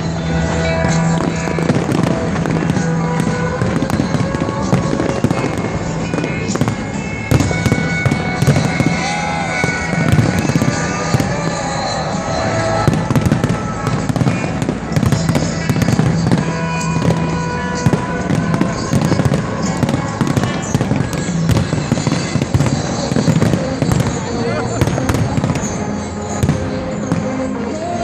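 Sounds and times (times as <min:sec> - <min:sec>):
fireworks bangs and crackles: 0:00.0 - 0:28.0
music playing: 0:00.0 - 0:28.0.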